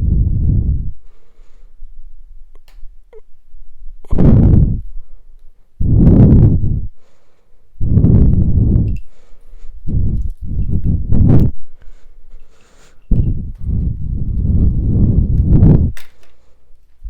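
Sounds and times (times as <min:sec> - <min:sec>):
breaths blowing on microphone: 0:00.0 - 0:02.0, 0:04.0 - 0:17.0.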